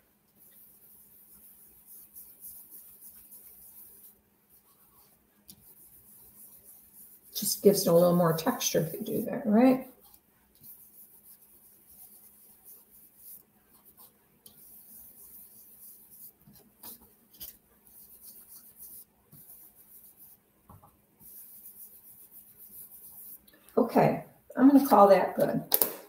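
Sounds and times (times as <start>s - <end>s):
brush scratching on cardstock: 0.3s - 20.4s, 21.2s - 23.5s.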